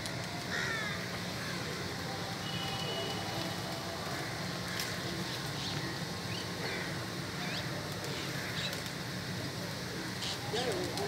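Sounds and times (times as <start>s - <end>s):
city background hum: 0.0s - 11.0s.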